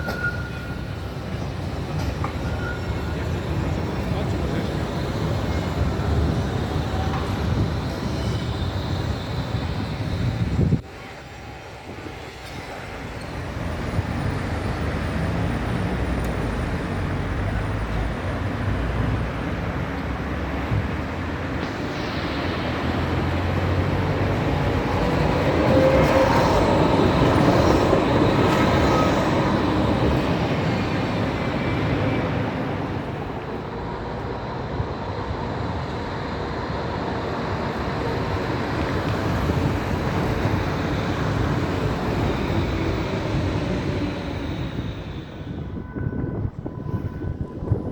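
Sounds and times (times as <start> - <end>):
city street traffic: 0.0 - 47.9
tram passing: 0.0 - 47.9.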